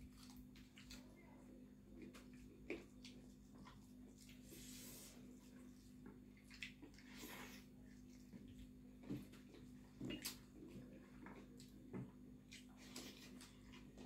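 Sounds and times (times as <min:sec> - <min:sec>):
chewing and smacking: 0:00.0 - 0:04.4, 0:05.5 - 0:14.0
low steady hum: 0:00.0 - 0:14.0.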